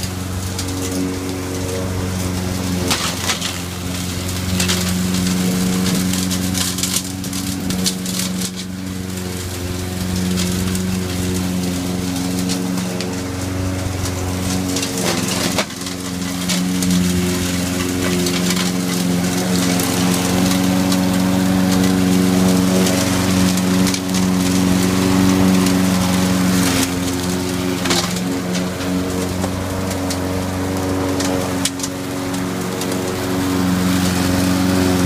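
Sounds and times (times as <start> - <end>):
blade crackling through twigs: 0.0 - 35.0
lawn mower engine running: 0.0 - 35.0.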